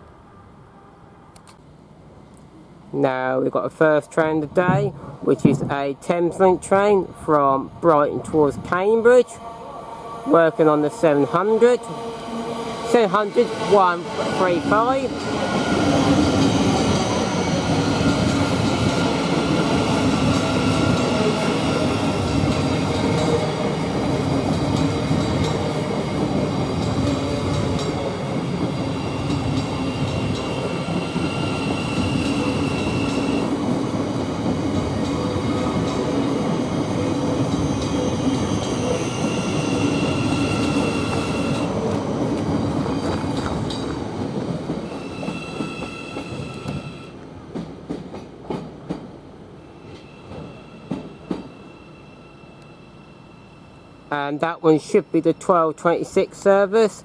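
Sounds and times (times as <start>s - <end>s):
train wheels rumbling on rail: 4.2s - 9.4s, 10.3s - 53.1s.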